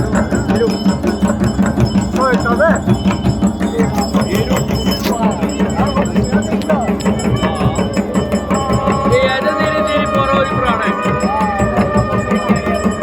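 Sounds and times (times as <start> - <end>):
bells clanging: 0.0 - 13.0
fast drum beat: 0.0 - 13.0
voices: 0.0 - 13.0
wavering melody: 0.0 - 13.0.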